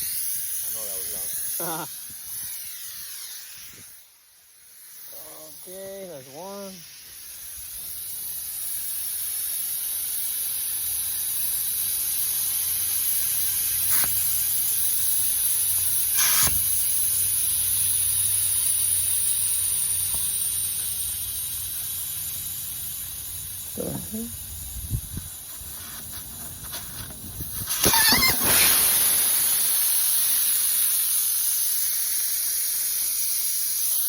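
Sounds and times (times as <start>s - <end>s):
air hissing from tire valve: 0.0s - 34.0s.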